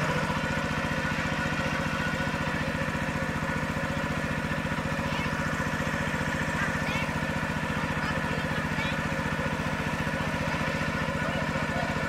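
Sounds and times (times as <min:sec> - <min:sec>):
small water pump engine running: 0:00.0 - 0:12.0.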